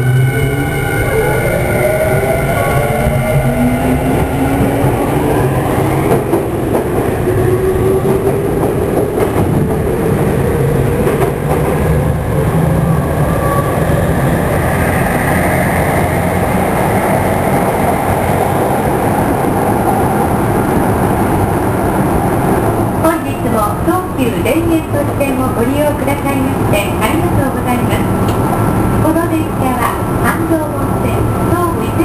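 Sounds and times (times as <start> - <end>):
train running noise: 0.0 - 32.0.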